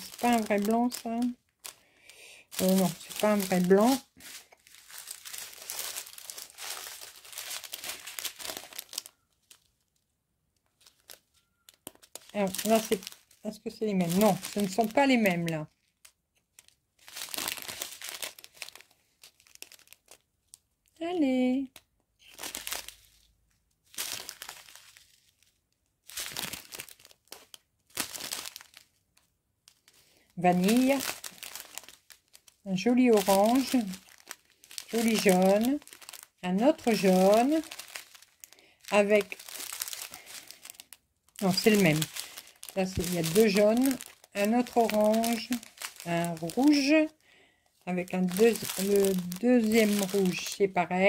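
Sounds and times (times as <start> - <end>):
plastic sachets crinkling: 0.0 - 51.0.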